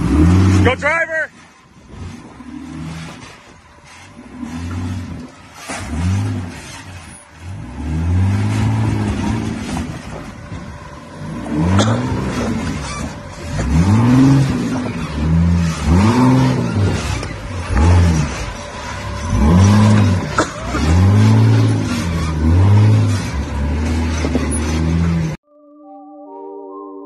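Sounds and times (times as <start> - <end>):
buggy engine revving in blips: 0.0 - 25.4.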